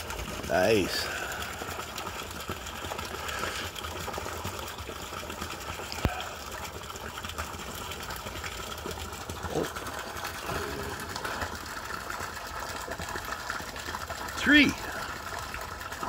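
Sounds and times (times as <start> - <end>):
waterfall splashing and trickling: 0.0 - 16.0.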